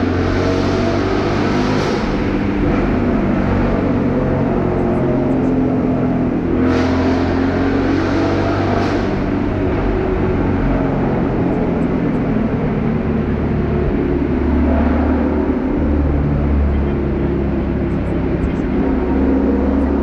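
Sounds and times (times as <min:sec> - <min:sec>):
deep car exhaust drone: 0:00.0 - 0:20.0.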